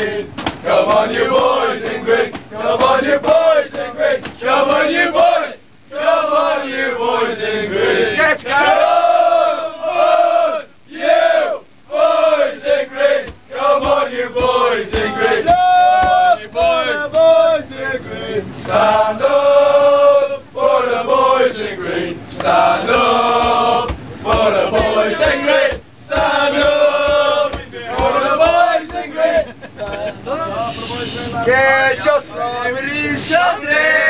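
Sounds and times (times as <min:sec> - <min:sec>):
football fans singing a chant: 0:00.0 - 0:30.6, 0:31.2 - 0:34.0.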